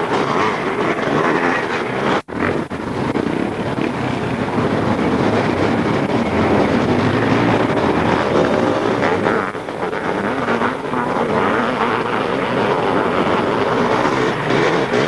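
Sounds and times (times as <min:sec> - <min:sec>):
motocross motorcycles racing: 0:00.0 - 0:15.0.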